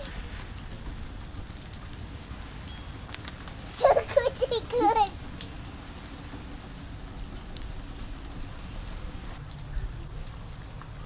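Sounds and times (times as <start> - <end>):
rain falling: 0.0 - 11.0
raindrops tapping: 0.0 - 11.0.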